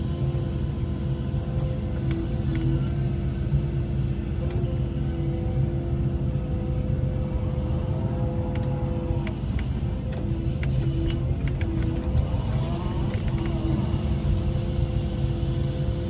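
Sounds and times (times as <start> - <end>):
excavator diesel engine under load: 0.0 - 16.0
hydraulic whine: 0.0 - 16.0.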